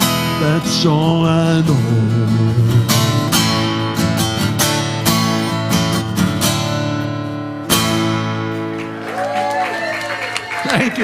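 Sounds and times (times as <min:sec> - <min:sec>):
strummed guitar chords: 0:00.0 - 0:09.0.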